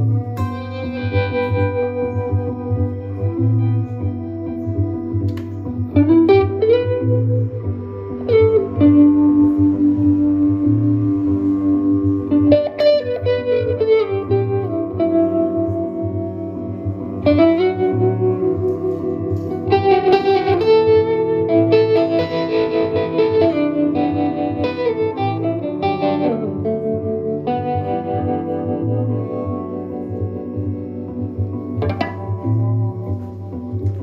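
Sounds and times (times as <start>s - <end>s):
picked electric guitar: 0.0s - 34.0s.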